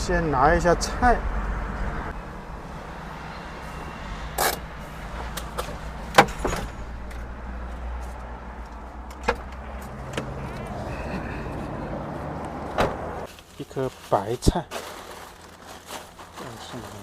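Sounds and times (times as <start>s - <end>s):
low vehicle hum: 0.0s - 17.0s.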